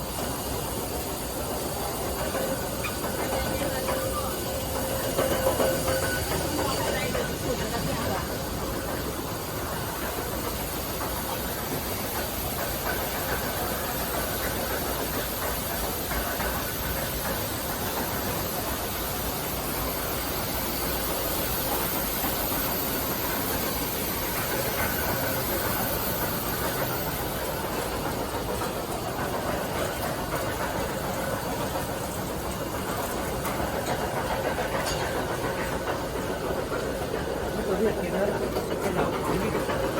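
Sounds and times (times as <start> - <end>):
machinery humming with hiss: 0.0 - 39.9.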